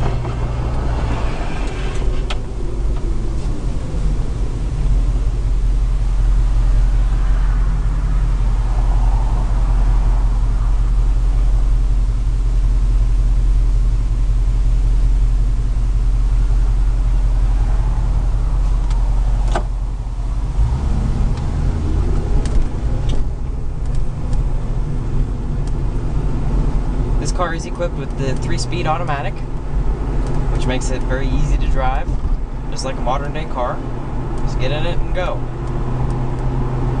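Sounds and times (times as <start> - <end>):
car engine drone: 0.0 - 37.0.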